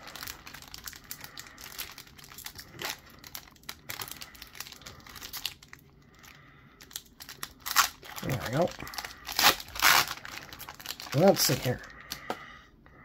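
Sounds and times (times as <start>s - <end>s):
foil wrapper crinkling and tearing: 0.0s - 12.2s.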